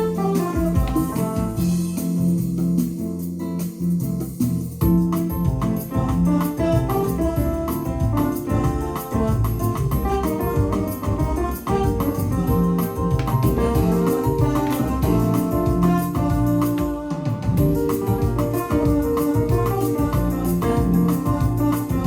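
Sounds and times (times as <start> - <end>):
bass line: 0.0 - 22.0
keyboard chords and melody: 0.0 - 22.0
steady drum beat: 0.0 - 22.0.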